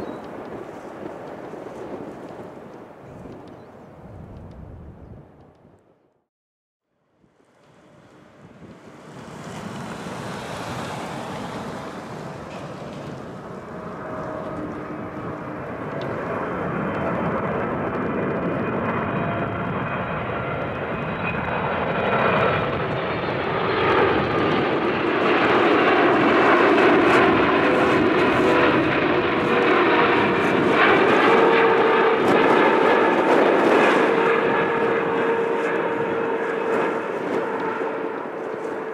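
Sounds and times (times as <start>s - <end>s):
jet airliner roar and fan whine: 7.2s - 38.9s.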